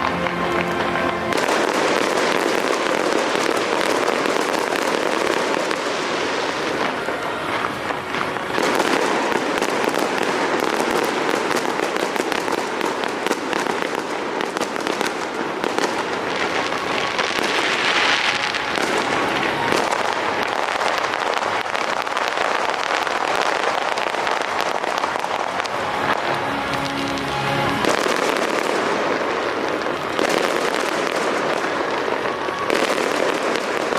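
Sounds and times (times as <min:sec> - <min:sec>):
fireworks crackling and popping: 0:00.0 - 0:33.9.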